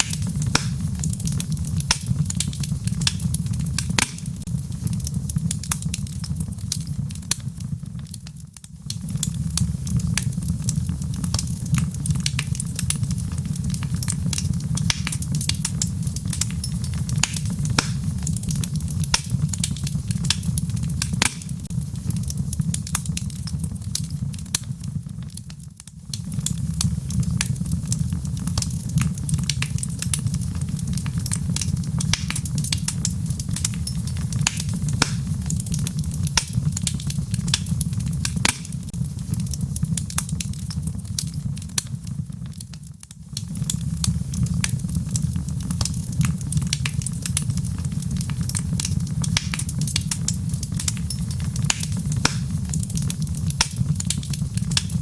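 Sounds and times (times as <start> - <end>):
fire low rumble: 0.0 - 55.0
log fire crackling and popping: 0.0 - 55.0.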